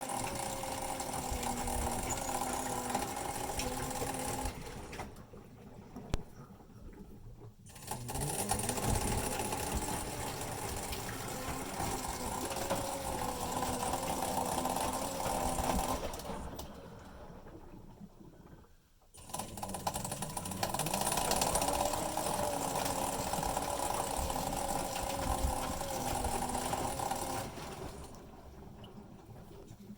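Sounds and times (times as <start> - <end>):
motor whine: 0.0 - 5.2, 7.8 - 17.6, 19.2 - 28.8
washing machine grinding hum: 0.0 - 29.9.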